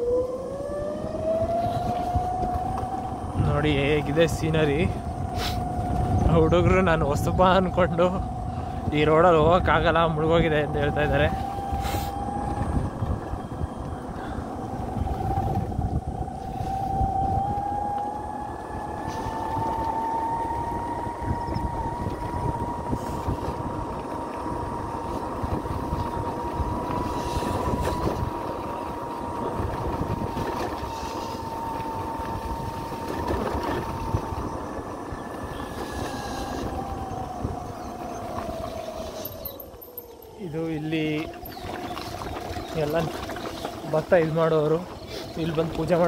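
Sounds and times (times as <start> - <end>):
vehicle engine whining and rumbling: 0.0 - 46.0.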